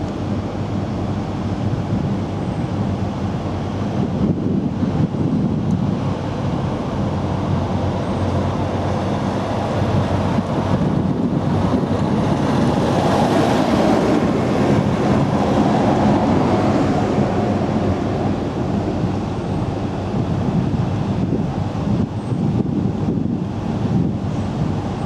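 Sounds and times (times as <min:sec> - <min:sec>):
low outdoor rumble: 0:00.0 - 0:25.0
wind buffeting microphone: 0:00.0 - 0:25.0.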